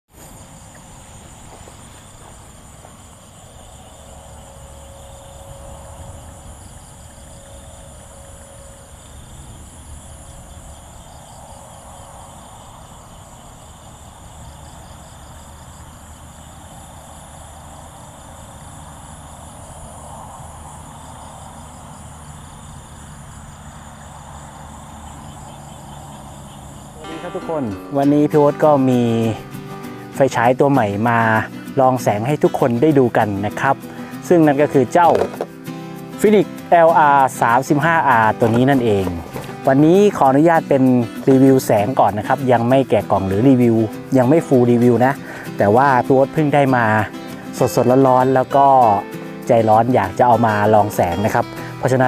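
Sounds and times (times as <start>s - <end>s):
crickets trilling: 0.1s - 52.0s.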